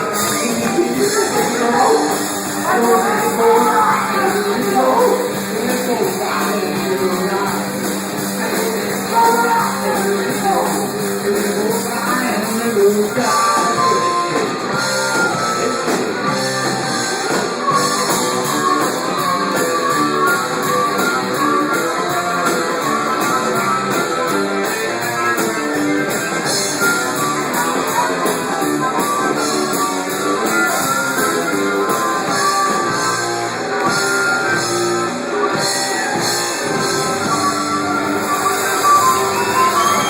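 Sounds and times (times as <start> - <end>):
instrumental guitar music: 0.0 - 40.0.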